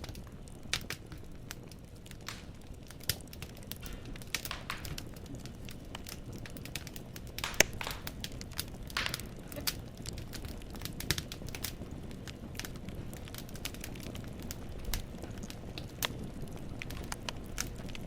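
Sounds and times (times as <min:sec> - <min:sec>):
logs crackling and popping: 0:00.0 - 0:18.0
low rumble of flame: 0:00.0 - 0:18.0.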